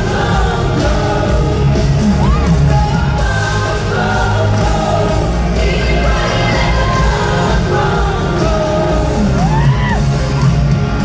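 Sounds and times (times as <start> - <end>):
live band through pa: 0.0 - 11.0.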